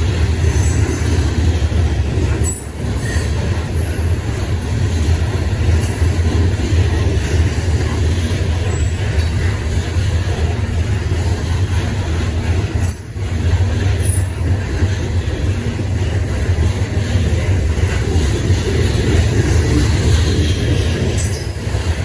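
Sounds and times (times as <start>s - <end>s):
train wheel squeals: 0.0s - 10.3s, 11.3s - 15.0s, 16.3s - 22.0s
freight train rumbling: 0.0s - 22.0s.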